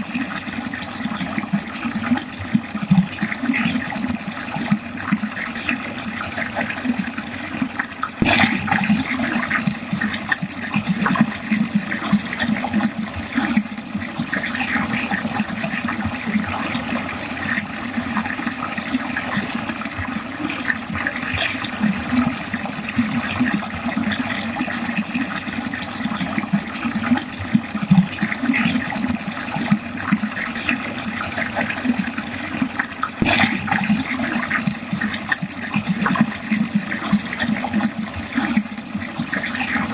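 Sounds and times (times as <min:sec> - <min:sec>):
water running down a drain: 0:00.0 - 0:39.9.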